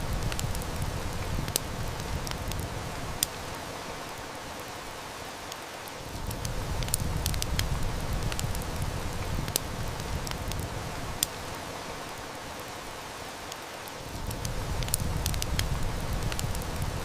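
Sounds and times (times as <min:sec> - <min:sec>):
heavy rain hissing: 0:00.0 - 0:17.0
wood fire crackling: 0:00.0 - 0:17.0.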